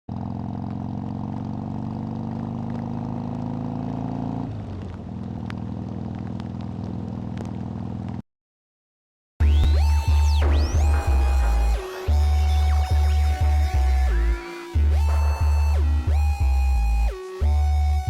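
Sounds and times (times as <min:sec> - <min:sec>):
motorcycle engine running: 0:00.1 - 0:08.2, 0:09.5 - 0:18.0.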